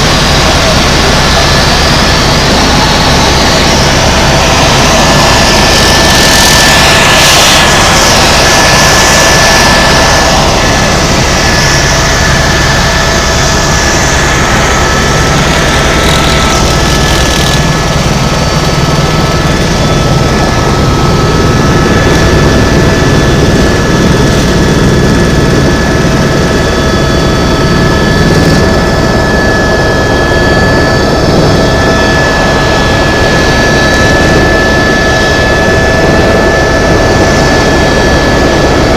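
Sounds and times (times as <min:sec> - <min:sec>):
helicopter engine whine: 0:00.0 - 0:38.9
helicopter rotor beat: 0:00.0 - 0:38.9.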